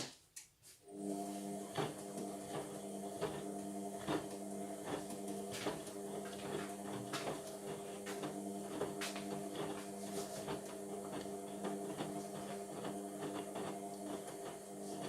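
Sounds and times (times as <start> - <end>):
washing machine motor hum: 0.8 - 15.0.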